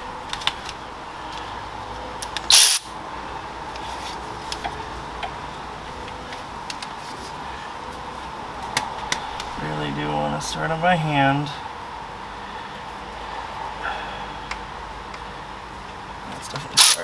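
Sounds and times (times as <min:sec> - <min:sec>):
shop fan humming: 0:00.0 - 0:17.0.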